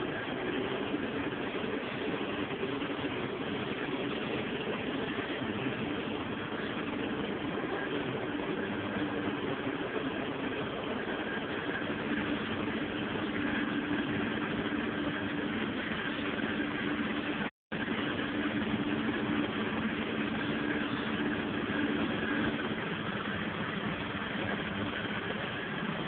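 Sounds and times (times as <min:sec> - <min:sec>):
tractor engine hum: 0:00.0 - 0:26.0.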